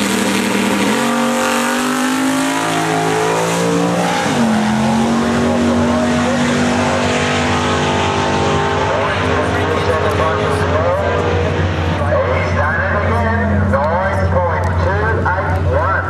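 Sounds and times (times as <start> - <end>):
car engine at full throttle: 0.0 - 16.0.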